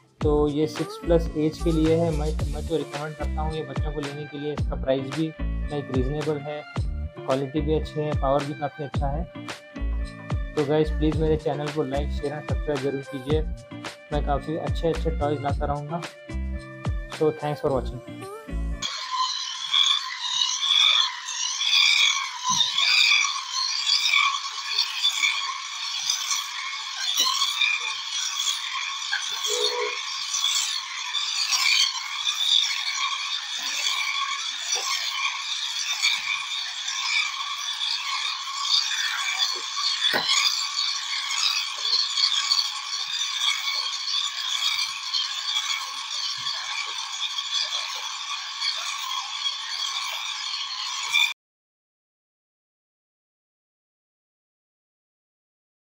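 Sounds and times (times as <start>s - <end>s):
toy buggy motor whirring: 0.0s - 7.6s, 8.4s - 16.2s, 17.1s - 51.4s.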